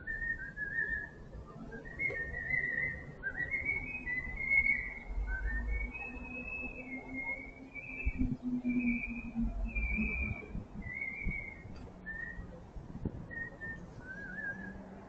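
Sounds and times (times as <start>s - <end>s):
man whistling a melody: 1.9s - 12.6s, 13.3s - 14.8s.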